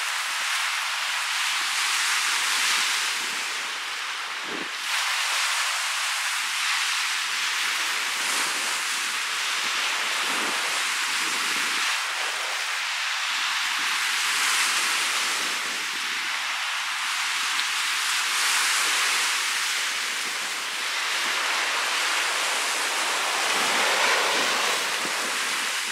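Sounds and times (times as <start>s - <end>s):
waves breaking on shore: 0.0s - 25.9s
wind noise on microphone: 0.0s - 25.9s.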